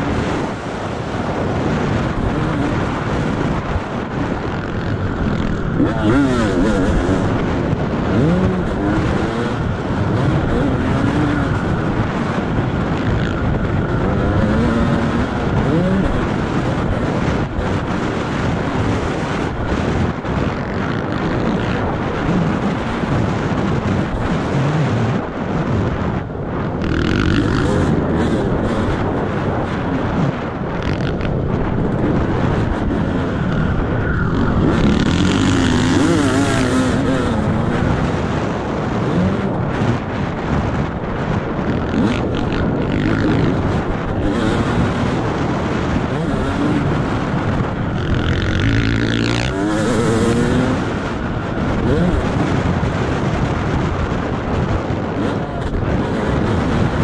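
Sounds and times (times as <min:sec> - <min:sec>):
dirt bike engine revving: 0:00.0 - 0:57.0
wind noise: 0:00.0 - 0:57.0.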